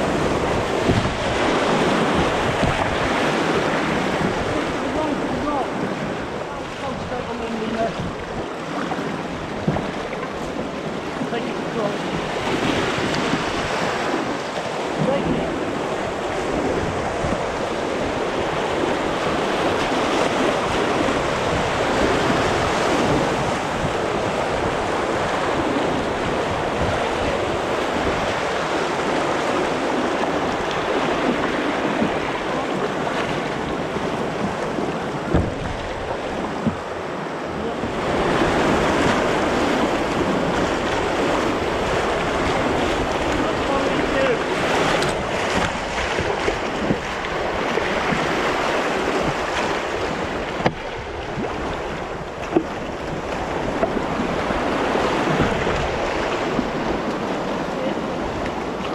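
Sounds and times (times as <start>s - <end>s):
river rapids rushing: 0.0s - 58.9s.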